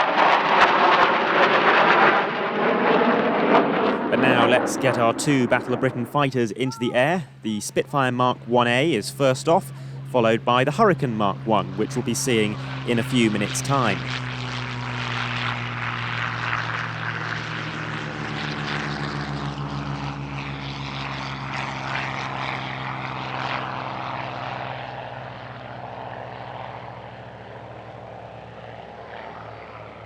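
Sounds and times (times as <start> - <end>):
propeller plane engine taking off: 0.0 - 30.0.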